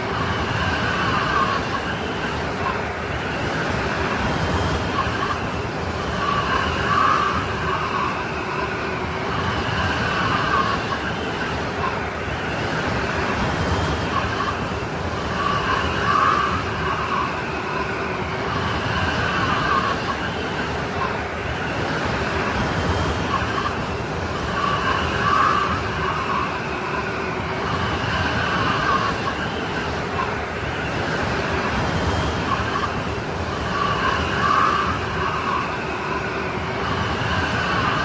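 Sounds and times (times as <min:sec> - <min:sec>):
whistling snowstorm wind: 0:00.0 - 0:38.0.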